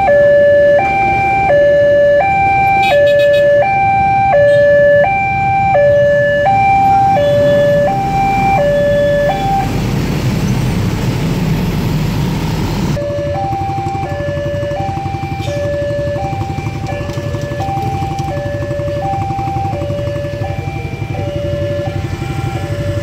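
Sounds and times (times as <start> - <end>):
two-tone level crossing alarm: 0.0 - 9.7, 13.0 - 23.0
motorcycle and traffic engines: 0.0 - 23.0.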